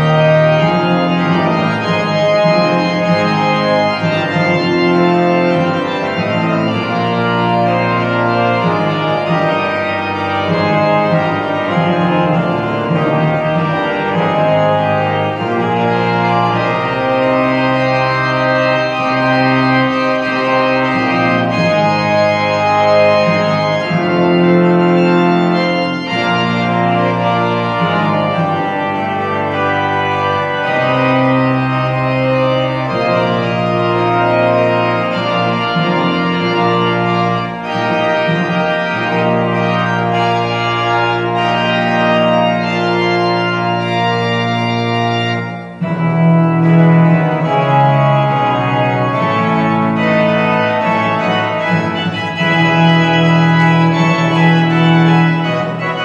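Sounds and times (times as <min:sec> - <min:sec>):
organ playing slow chords: 0:00.0 - 0:56.0.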